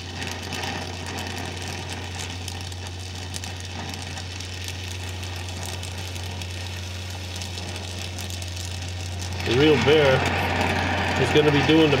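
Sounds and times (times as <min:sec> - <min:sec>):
faint crackling: 0:00.0 - 0:12.0
welding machine humming: 0:00.0 - 0:12.0.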